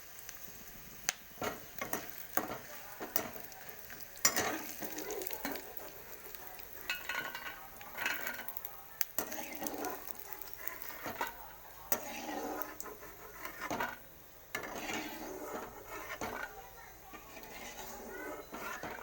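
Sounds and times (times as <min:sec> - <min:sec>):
food sizzling in a pan: 0:00.0 - 0:19.0
utensil scraping and knocking pan: 0:01.4 - 0:08.6, 0:09.2 - 0:19.0.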